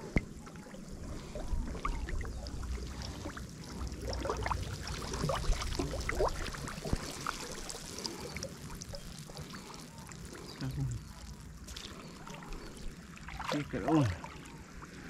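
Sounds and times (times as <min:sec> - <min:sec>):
small gurgles and plops: 0:00.0 - 0:15.0
water sloshing and splashing: 0:00.0 - 0:15.0.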